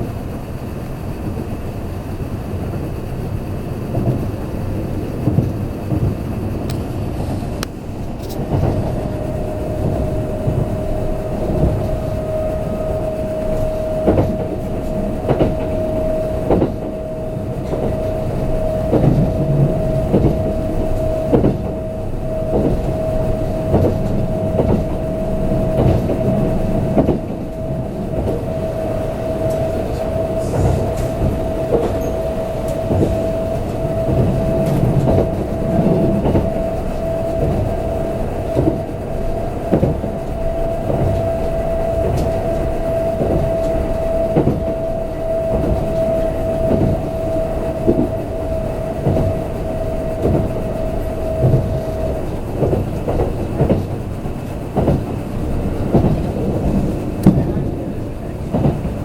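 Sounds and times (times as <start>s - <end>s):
train running gear rumble: 0.0s - 59.0s
clacks over rail joints: 0.2s - 59.0s.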